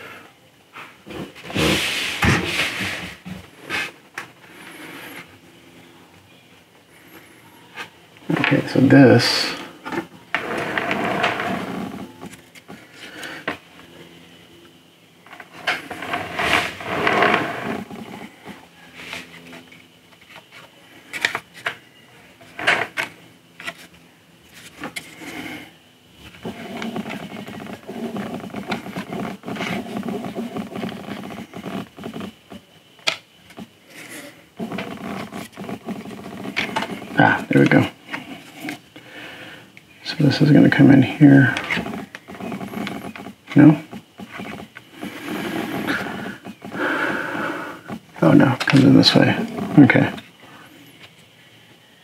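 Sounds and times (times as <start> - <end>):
faint steady hum: 0.0 - 52.0
parts rubbing and scraping: 0.8 - 5.4, 7.0 - 14.4, 15.2 - 21.7, 22.4 - 32.7, 33.5 - 38.9, 40.1 - 51.1.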